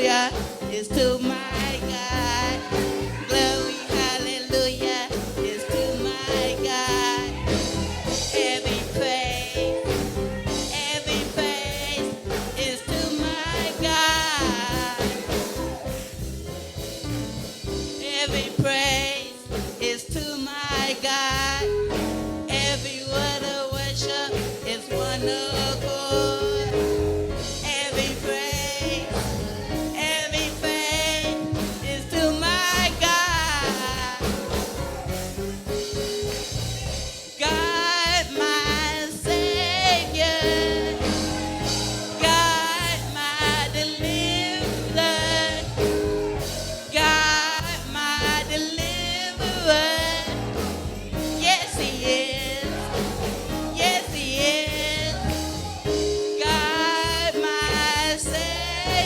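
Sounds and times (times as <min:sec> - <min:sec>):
gospel singing with vibrato: 0:00.0 - 0:59.0
instrumental accompaniment with beat: 0:00.0 - 0:59.0.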